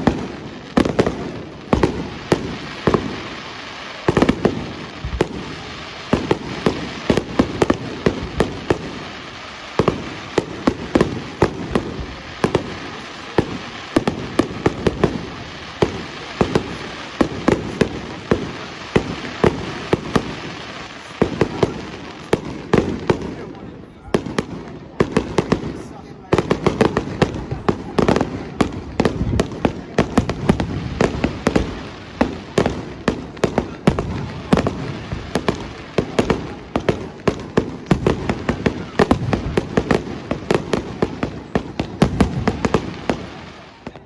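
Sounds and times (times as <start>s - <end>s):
fireworks bangs: 0.0s - 44.0s.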